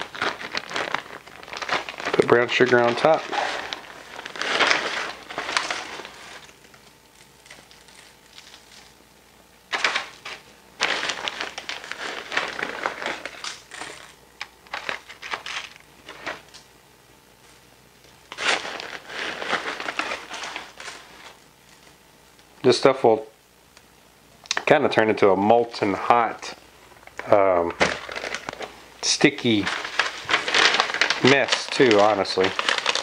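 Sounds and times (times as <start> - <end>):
plastic bag crinkling: 0.0 - 16.6, 18.0 - 22.0, 26.3 - 33.0.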